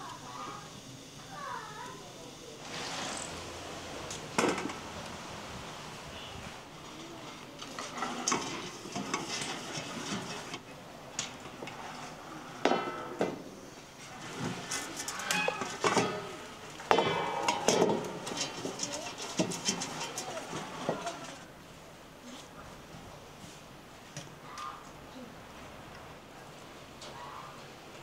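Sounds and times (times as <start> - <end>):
faint sizzle: 0.0 - 23.8.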